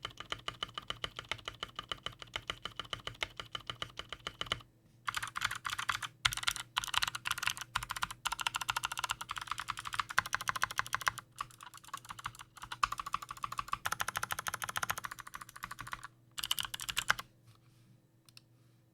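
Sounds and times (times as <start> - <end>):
fast typing on mechanical keyboard: 0.0 - 17.2.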